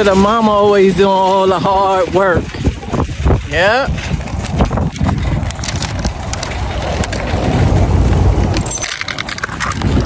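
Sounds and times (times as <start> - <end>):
basket rattling: 0.0 - 10.0
cart wheels rumbling on asphalt: 0.0 - 10.0.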